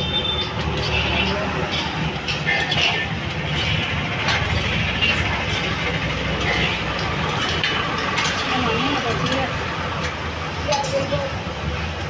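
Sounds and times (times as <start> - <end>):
heavy vehicle rumbling: 0.0 - 12.0.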